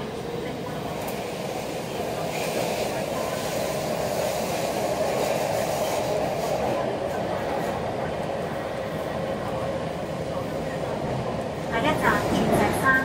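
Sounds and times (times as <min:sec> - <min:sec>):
metro train wheels rumbling: 0:00.0 - 0:13.0.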